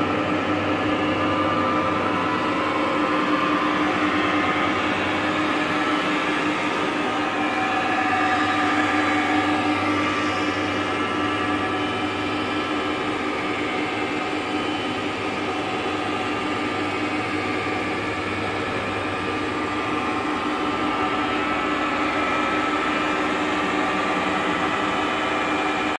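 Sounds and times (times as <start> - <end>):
constant machine tones: 0.0 - 25.9
milling machine humming: 0.0 - 25.9.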